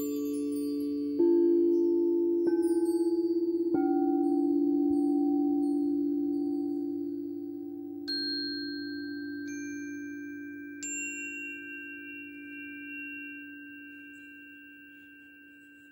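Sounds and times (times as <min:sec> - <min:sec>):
singing bowl low tone: 0:00.0 - 0:15.9.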